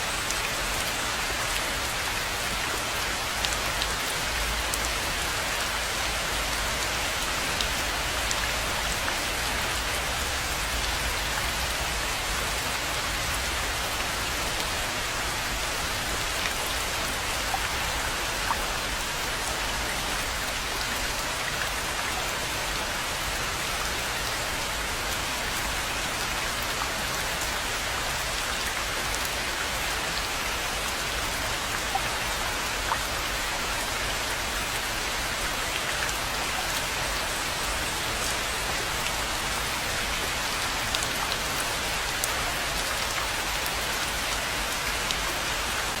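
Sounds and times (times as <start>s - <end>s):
rain hissing on foliage: 0.0s - 46.0s.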